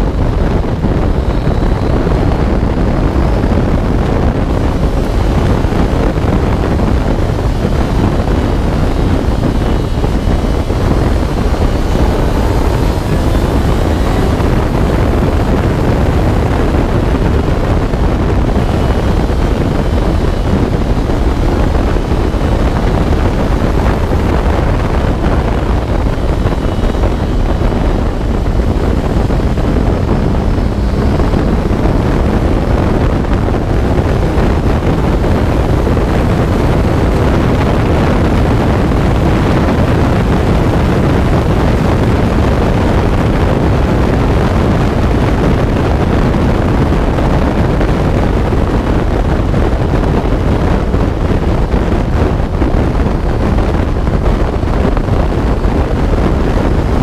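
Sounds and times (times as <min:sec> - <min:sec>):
car engine running under load: 0:00.0 - 0:57.0
wind buffeting microphone: 0:00.0 - 0:57.0.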